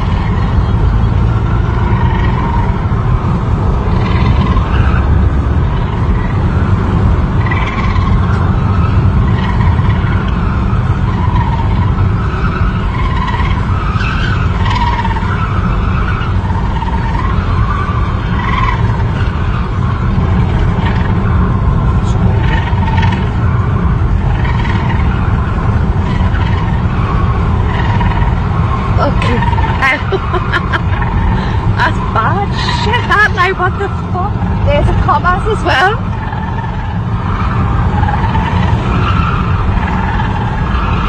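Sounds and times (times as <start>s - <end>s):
car road and engine rumble: 0.0s - 41.0s
wavering higher-pitched sounds: 3.8s - 41.0s.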